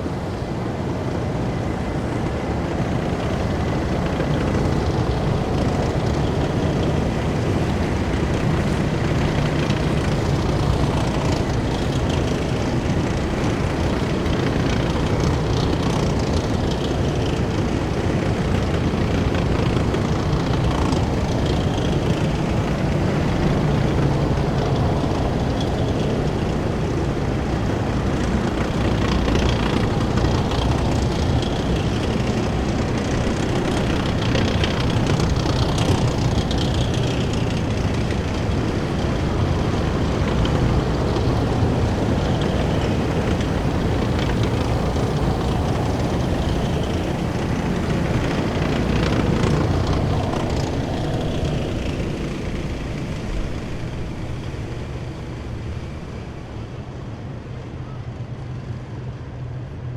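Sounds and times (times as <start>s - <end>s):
heavy military vehicles driving past: 0.0s - 59.8s.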